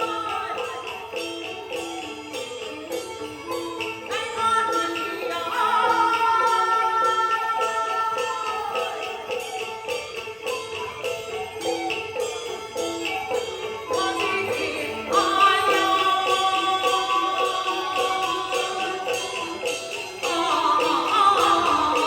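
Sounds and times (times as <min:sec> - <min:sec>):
jingling metal percussion: 0:00.0 - 0:22.0
opera melody: 0:00.0 - 0:22.0
percussion beat: 0:00.0 - 0:22.0.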